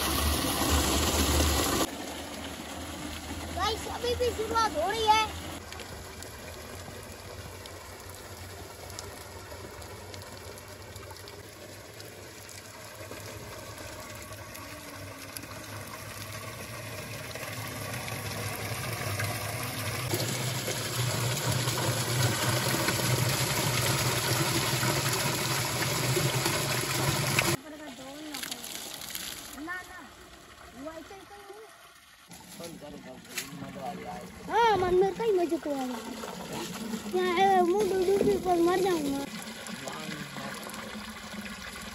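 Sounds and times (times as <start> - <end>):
water gushing into plastic drum: 0.0 - 41.9.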